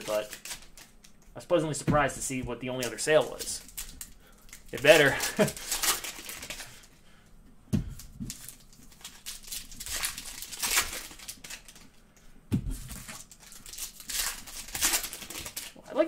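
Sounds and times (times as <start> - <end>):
cards rustling: 0.0 - 1.3, 2.2 - 7.0, 7.9 - 12.0, 12.8 - 15.8
foil wrappers crinkling: 0.0 - 7.1, 7.8 - 16.0.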